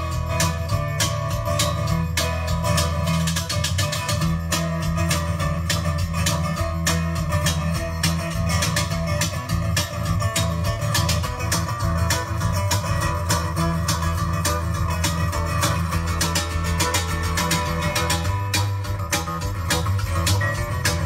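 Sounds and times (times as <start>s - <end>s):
fiddle: 0.0s - 21.0s
guitar strummed: 0.0s - 21.0s
sustained bass notes: 0.0s - 21.0s.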